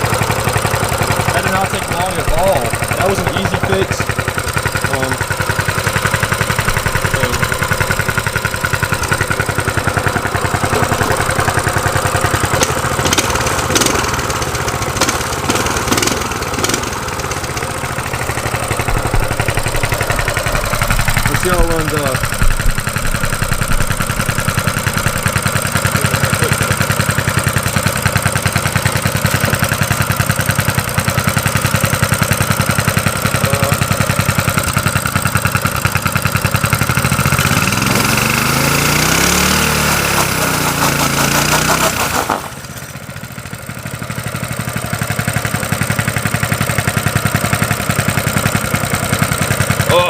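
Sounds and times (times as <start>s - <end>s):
engine revving: 0.0s - 50.0s
small engine running: 0.0s - 50.0s.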